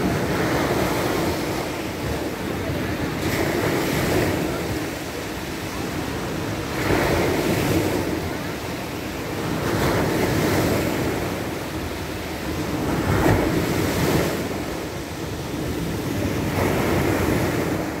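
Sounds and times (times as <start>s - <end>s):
waves breaking on pebble beach: 0.0s - 18.0s.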